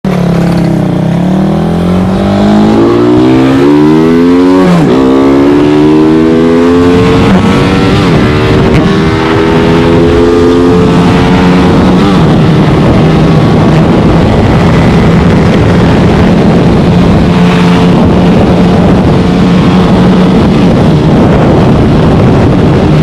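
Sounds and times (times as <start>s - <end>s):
motorcycle engine accelerating hard: 0.1s - 23.0s.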